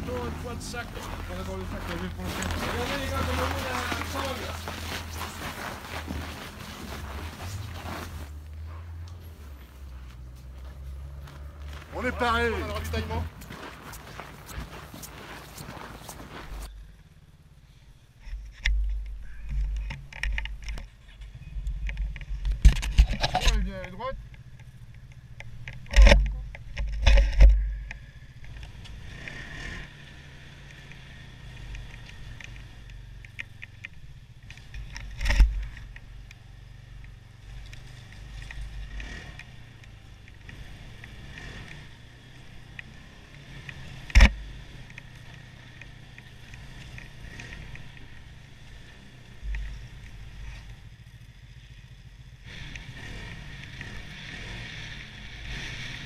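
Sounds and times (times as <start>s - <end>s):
snowmobile engine running: 0.0s - 19.8s, 22.0s - 56.0s.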